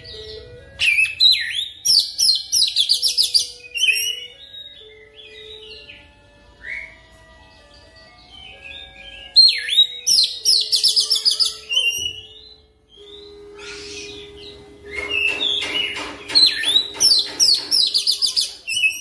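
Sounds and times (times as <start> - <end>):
bird singing whistled notes: 0.0 - 7.2, 8.2 - 19.0
scratchy bird notes: 0.0 - 19.0.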